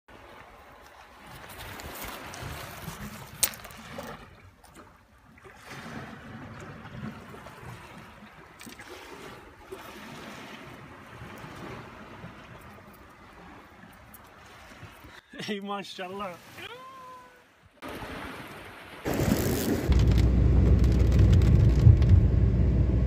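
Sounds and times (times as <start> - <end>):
wind and water rushing: 0.1 - 23.0.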